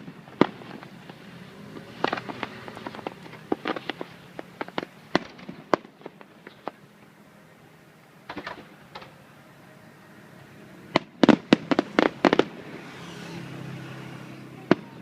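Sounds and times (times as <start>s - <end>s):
fireworks exploding: 0.0s - 9.4s, 10.4s - 15.0s
fireworks crackle hiss: 0.0s - 15.0s.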